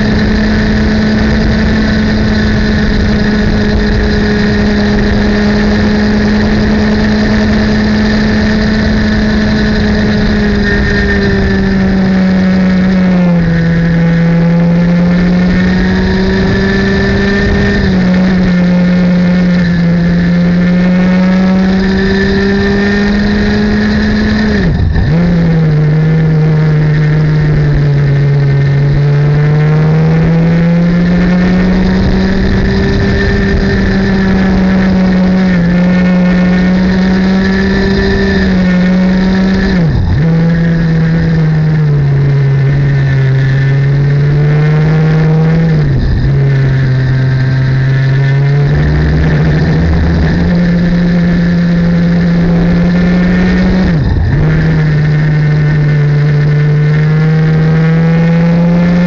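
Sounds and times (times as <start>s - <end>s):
kart engine at high revs: 0.0s - 59.0s.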